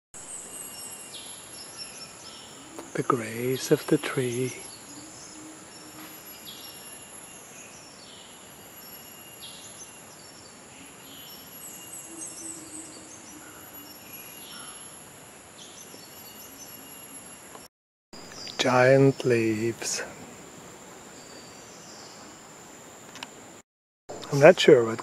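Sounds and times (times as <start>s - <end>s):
insects droning: 0.2s - 25.0s.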